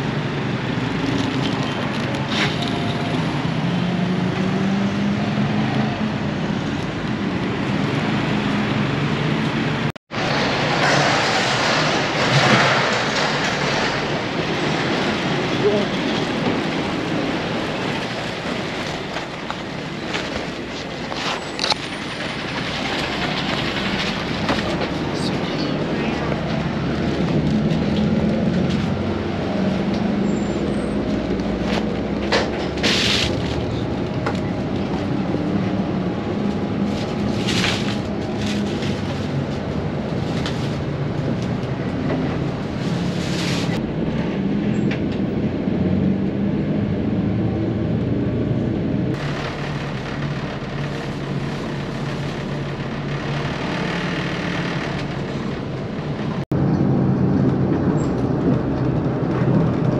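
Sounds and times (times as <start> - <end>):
bus engine drone: 0.0 - 59.9
road rumble: 0.0 - 59.9.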